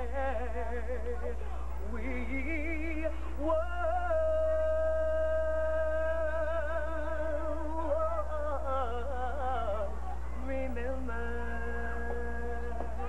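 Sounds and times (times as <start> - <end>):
steady low hum: 0.0 - 13.0
woman singing unaccompanied: 0.0 - 13.0.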